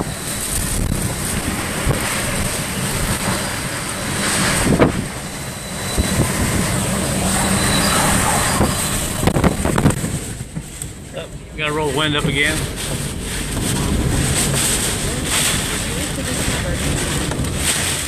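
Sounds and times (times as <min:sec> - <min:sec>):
strong wind rushing: 0:00.0 - 0:18.0
wind buffeting microphone: 0:00.0 - 0:18.0.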